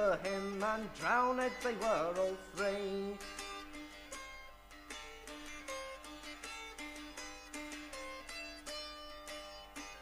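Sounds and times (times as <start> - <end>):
plucked string instrument tune: 0.0 - 10.0.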